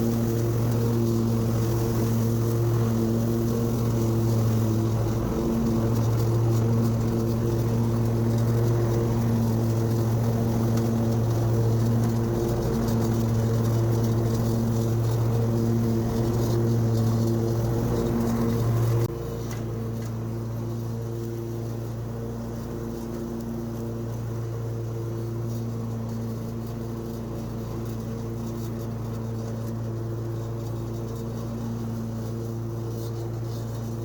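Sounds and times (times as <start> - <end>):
lawn mower engine cutting grass: 0.0 - 34.0.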